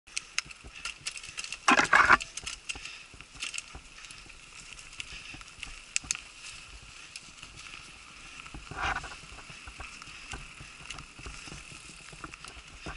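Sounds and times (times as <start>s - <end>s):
mountain bike rattling on trail: 0.1s - 12.9s.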